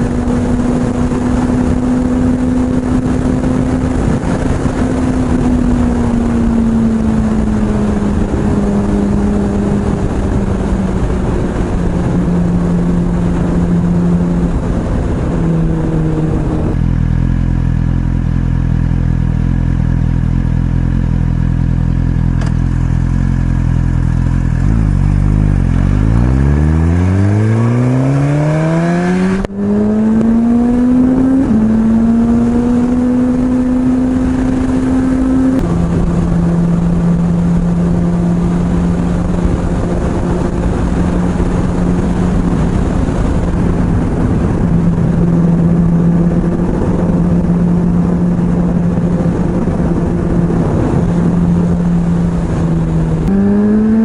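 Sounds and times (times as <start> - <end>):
wind rush: 0.0 - 17.7, 23.4 - 54.0
motorcycle engine idling and revving: 0.0 - 54.0.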